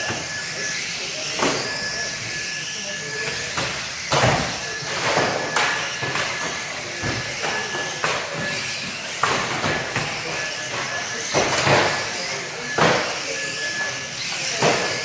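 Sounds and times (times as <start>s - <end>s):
model car motors and tyres running: 0.0s - 15.0s.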